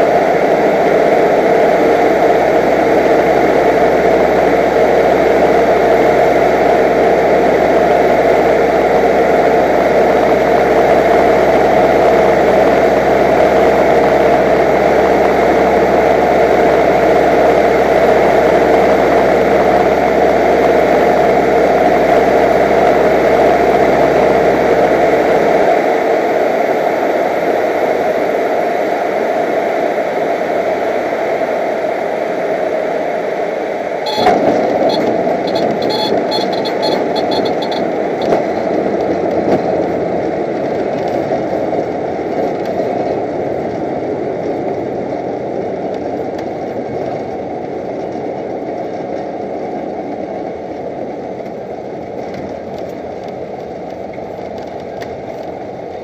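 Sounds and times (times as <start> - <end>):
propeller aircraft engine: 0.0 - 56.0.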